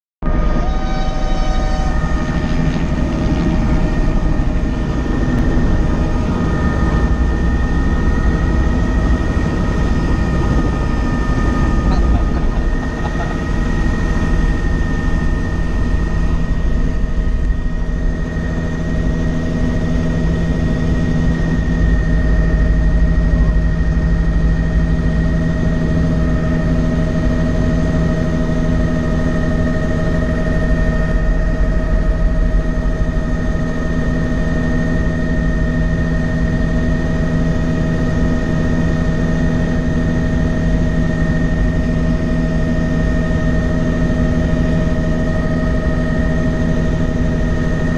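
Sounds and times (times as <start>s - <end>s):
helicopter engine and rotor drone: 0.2s - 47.9s.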